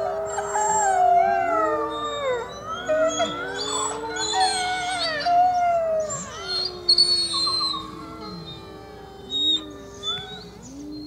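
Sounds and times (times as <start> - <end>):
wolves howling: 0.0 - 11.0.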